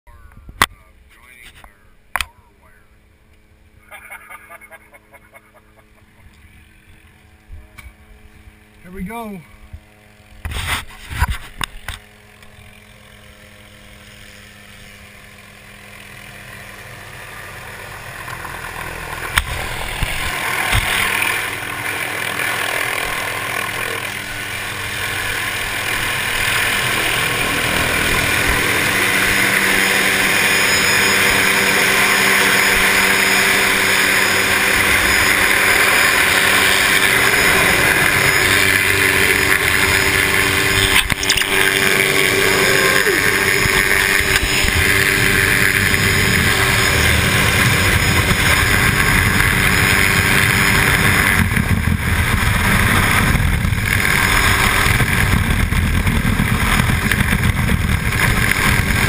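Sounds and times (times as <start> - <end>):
helicopter rotor and engine: 0.1 - 59.0.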